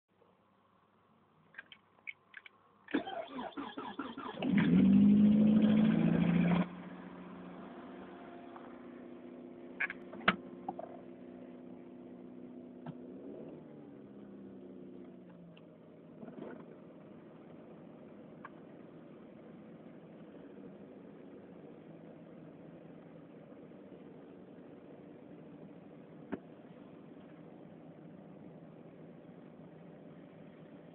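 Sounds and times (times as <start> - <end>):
car engine starting and idling: 2.9 - 30.9.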